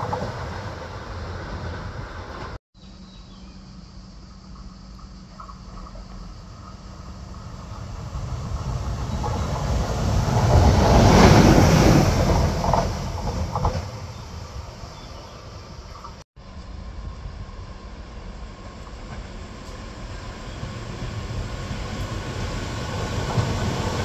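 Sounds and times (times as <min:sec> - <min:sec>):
train wheels rumbling on rails: 0:00.0 - 0:02.6, 0:04.2 - 0:24.0.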